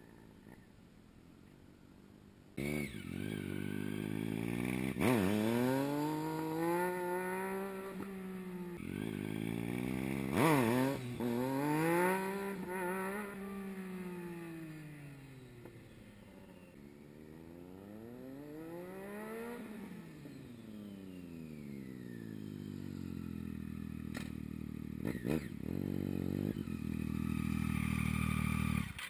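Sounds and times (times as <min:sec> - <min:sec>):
motorcycle engine revving: 0:02.6 - 0:29.0.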